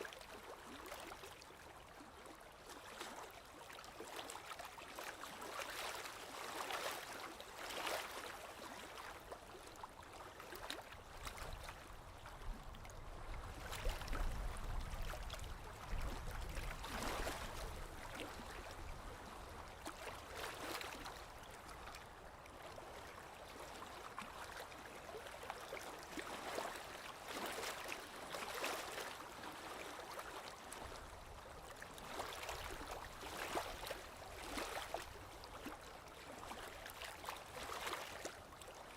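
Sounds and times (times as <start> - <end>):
small waves lapping on shore: 0.0 - 38.9.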